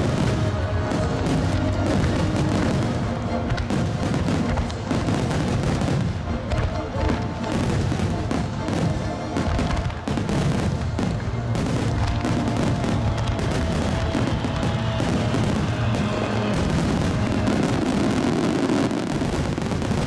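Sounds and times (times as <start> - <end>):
fireworks bursting: 0.0 - 20.0
music: 0.0 - 20.0.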